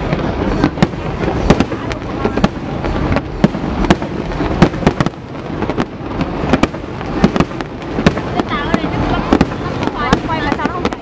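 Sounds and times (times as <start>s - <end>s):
continuous rumble: 0.0s - 11.0s
fireworks bursting with sharp bangs: 0.0s - 11.0s.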